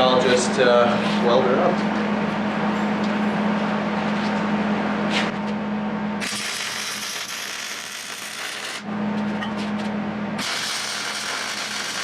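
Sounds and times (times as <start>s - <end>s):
arc welder crackling hum: 0.0s - 12.0s.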